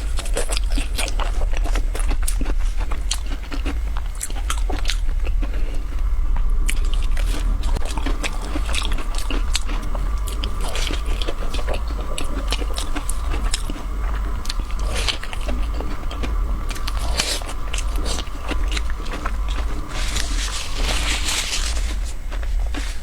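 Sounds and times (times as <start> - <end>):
biscuits crunching: 0.0 - 23.0
chewing: 0.0 - 23.0
steady low hum: 0.0 - 23.0.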